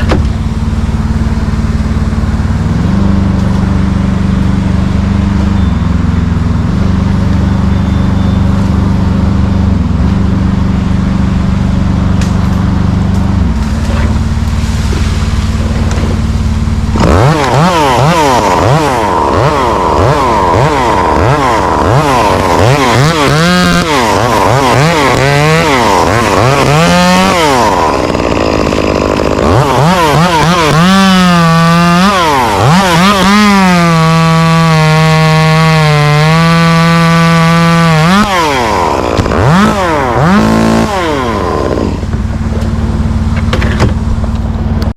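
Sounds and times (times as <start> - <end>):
chainsaw revving: 0.0 - 5.6, 8.4 - 44.9
engine running: 0.0 - 44.9.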